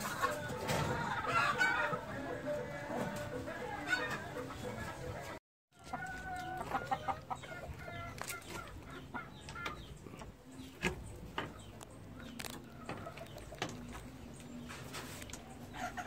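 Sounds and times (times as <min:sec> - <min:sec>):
pheasants clucking: 0:00.0 - 0:16.0.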